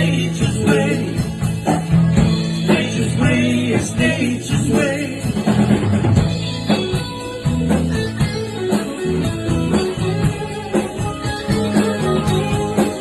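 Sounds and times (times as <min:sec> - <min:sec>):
bass guitar: 0:00.0 - 0:13.0
drum kit beat: 0:00.0 - 0:13.0
electric guitar: 0:00.0 - 0:13.0.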